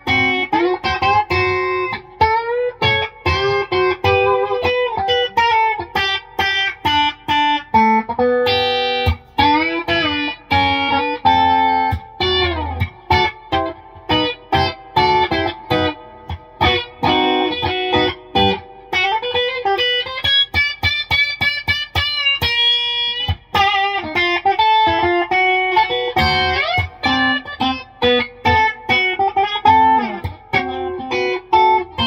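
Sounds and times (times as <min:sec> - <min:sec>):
electric guitar chicken-picking: 0:00.0 - 0:32.0.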